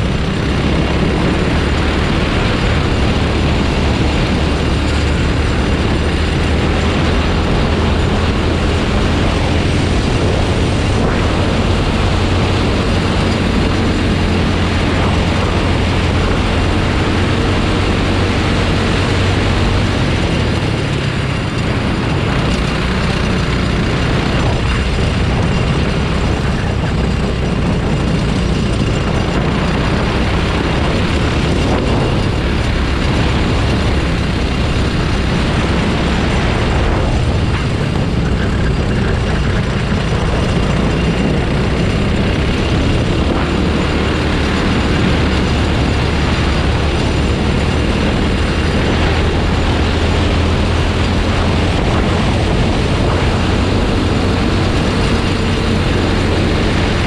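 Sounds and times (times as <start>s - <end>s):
kart engine racing: 0.0s - 57.0s
wind and road noise: 0.0s - 57.0s.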